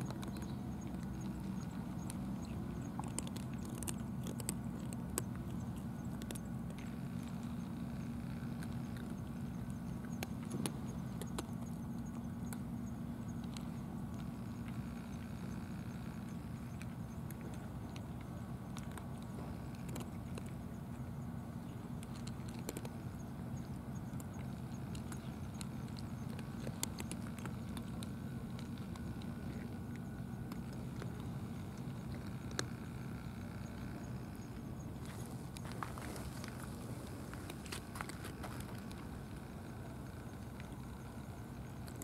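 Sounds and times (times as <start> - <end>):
cats eating from dishes: 0.0 - 42.0
low mechanical hum: 0.0 - 42.0.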